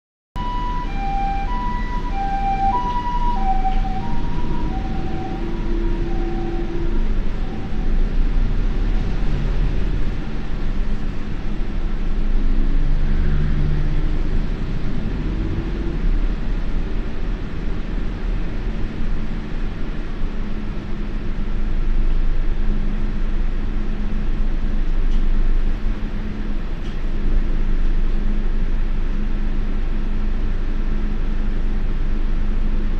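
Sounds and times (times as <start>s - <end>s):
diesel bus engine running: 0.4s - 32.9s
low road rumble: 0.4s - 32.9s.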